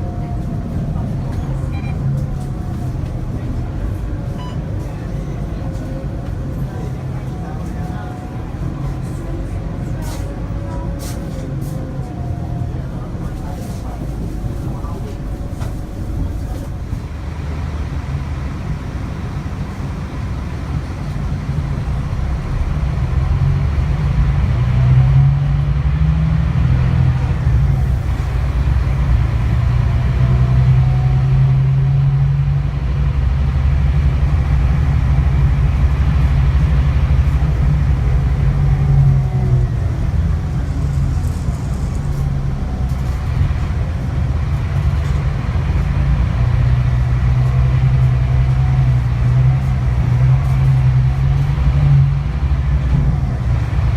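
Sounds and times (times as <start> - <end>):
bus engine droning: 0.0 - 53.9.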